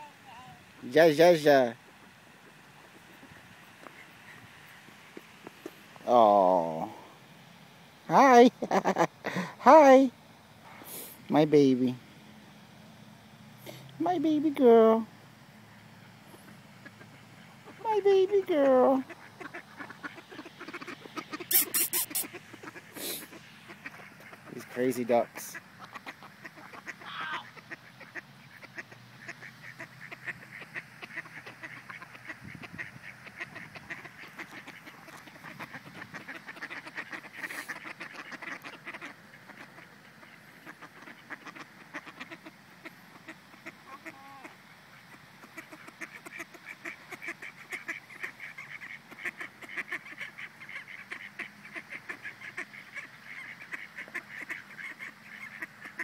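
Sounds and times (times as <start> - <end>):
ducks quacking: 0.0 - 7.0, 15.9 - 56.0.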